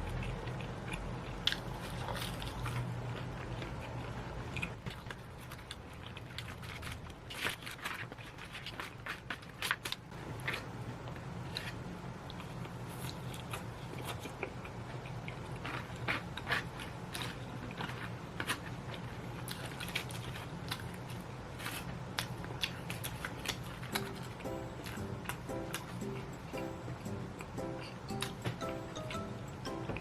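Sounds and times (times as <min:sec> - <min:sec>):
crunching fried chicken: 0:00.0 - 0:28.3
low steady hum: 0:00.0 - 0:30.0.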